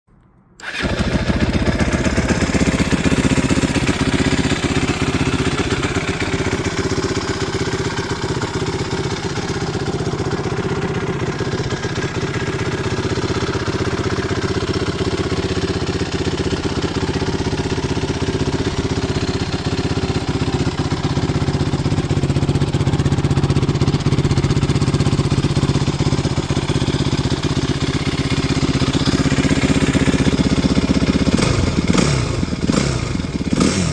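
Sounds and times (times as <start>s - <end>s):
dirt bike engine idling: 0.6s - 33.9s.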